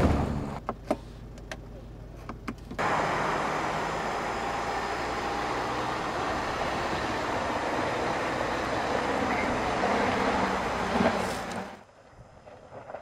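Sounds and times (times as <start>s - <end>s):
diesel engine running: 0.0s - 11.8s
tyre and driving noise: 0.0s - 13.0s.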